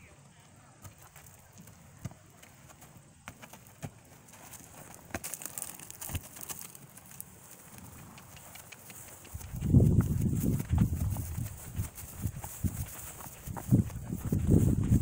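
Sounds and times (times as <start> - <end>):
hooves on gravel: 0.7 - 15.0.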